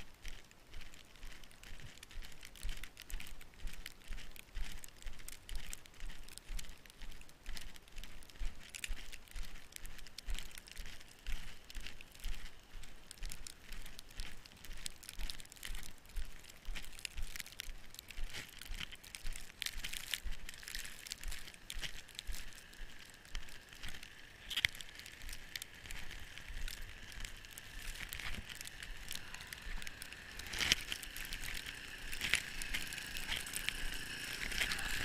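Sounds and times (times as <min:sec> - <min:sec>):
footsteps crunching in snow: 0:00.0 - 0:35.0.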